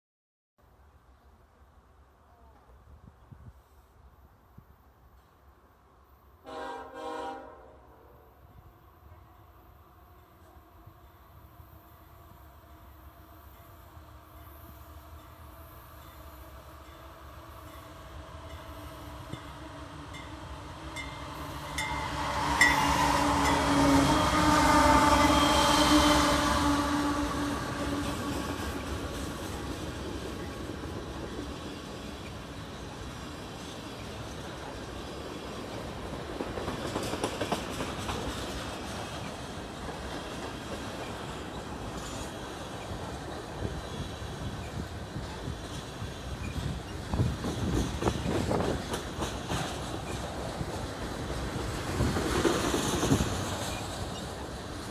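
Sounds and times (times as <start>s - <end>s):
rail noise: 0.7s - 54.9s
diesel locomotive engine hum: 5.4s - 54.9s.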